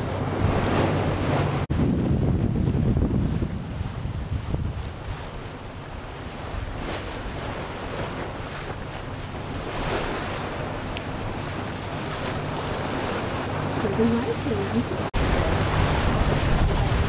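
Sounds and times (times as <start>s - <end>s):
boat engine humming: 0.0s - 17.0s
water rushing past hull: 0.0s - 17.0s
wind buffeting microphone: 0.0s - 17.0s.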